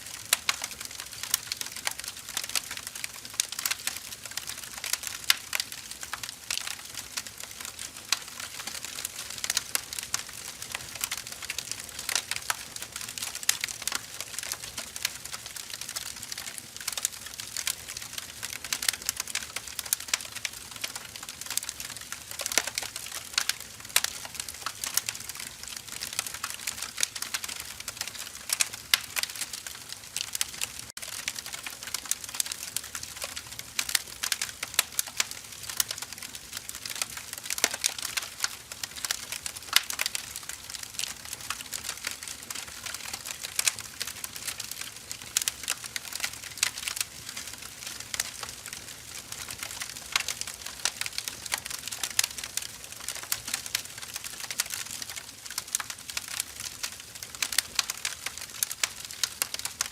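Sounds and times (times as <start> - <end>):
logs crackling and popping: 0.0 - 59.9.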